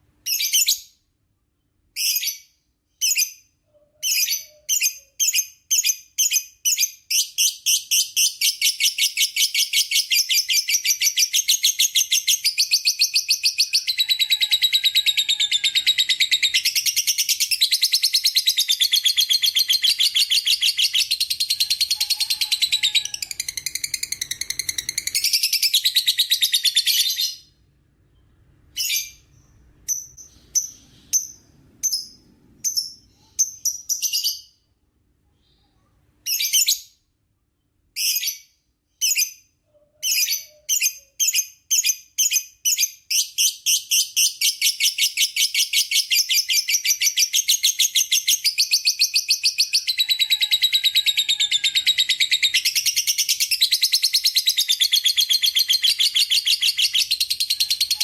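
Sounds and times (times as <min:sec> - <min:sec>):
lovebird chirping trill: 0:01.6 - 0:34.6, 0:38.0 - 0:58.0.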